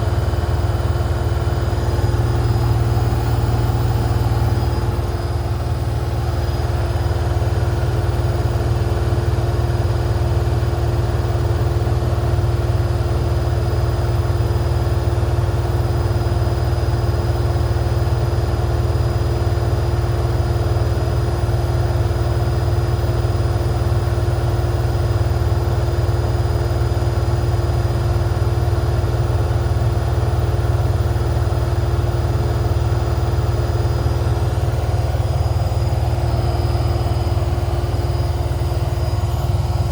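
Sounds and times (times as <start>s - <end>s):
washing machine drone: 0.0s - 39.9s
washing machine whine: 0.0s - 39.9s.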